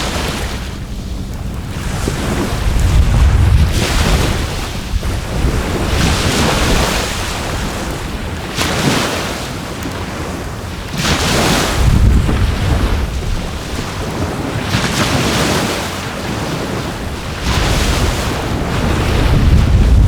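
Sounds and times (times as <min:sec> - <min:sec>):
surf washing onto shore: 0:00.0 - 0:20.0
wind rumble on microphone: 0:00.0 - 0:20.0.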